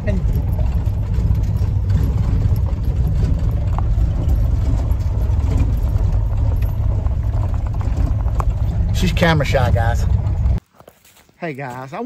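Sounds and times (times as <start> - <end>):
van engine and road noise: 0.0 - 10.7.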